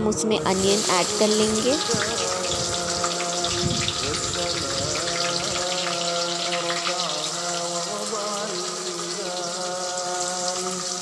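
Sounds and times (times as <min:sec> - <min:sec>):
spices sizzling in hot oil: 0:00.2 - 0:11.0.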